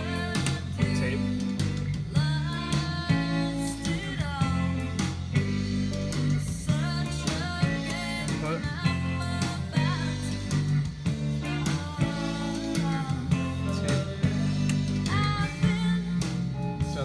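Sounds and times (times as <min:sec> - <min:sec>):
song with guitar and singing: 0:00.0 - 0:17.0.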